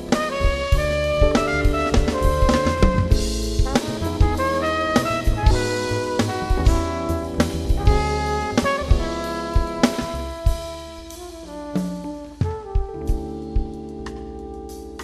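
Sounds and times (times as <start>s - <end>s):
drum kit and cymbal hits: 0.0s - 15.0s
trumpet playing melody: 0.0s - 15.0s.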